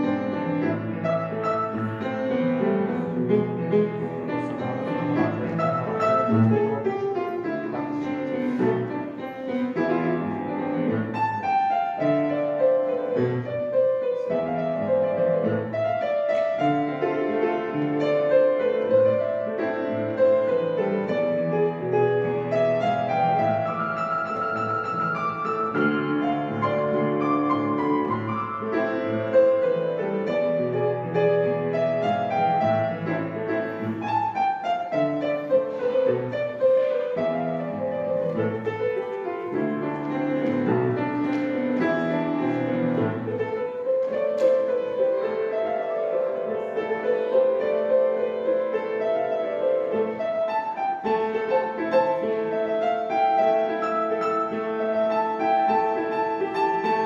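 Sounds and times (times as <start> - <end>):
piano melody: 0.0 - 57.0.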